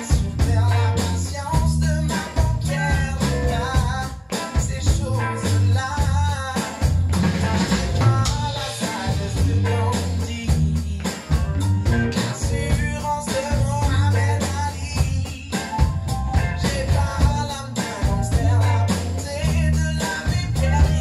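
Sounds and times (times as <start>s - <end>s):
drum kit playing: 0.0s - 21.0s
electric bass guitar: 0.0s - 21.0s
person singing: 0.0s - 21.0s.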